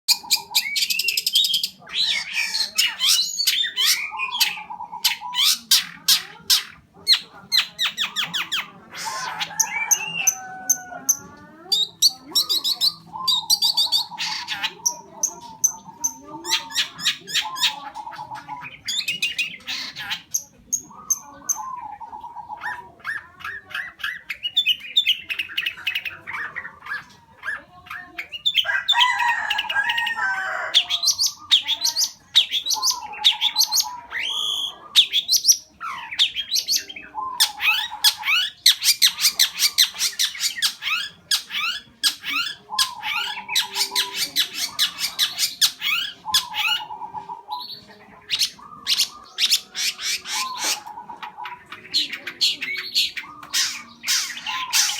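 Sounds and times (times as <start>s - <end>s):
shrike singing: 0.1s - 54.9s.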